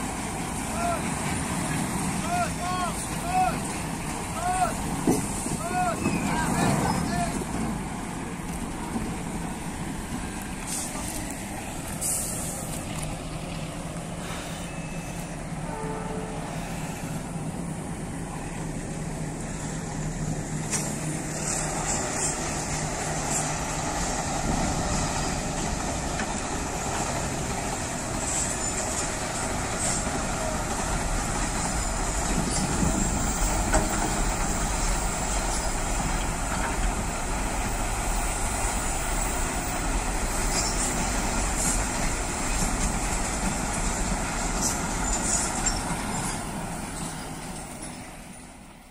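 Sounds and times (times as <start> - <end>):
diesel engine humming: 0.0 - 48.9
passing vehicles rumbling: 0.0 - 48.9.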